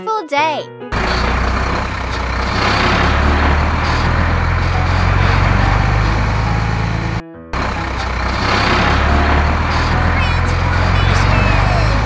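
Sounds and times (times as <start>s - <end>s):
loud vehicle engine rumble: 0.9s - 12.0s.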